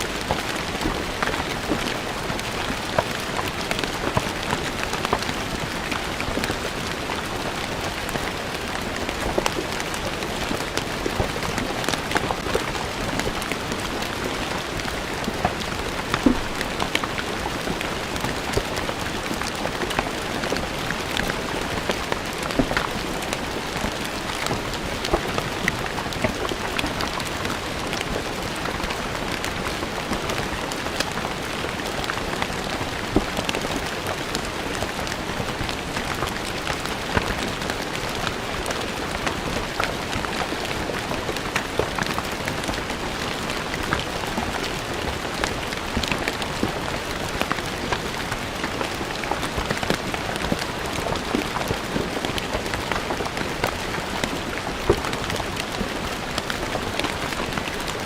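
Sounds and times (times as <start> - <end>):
rain falling on stone paving: 0.0 - 58.0.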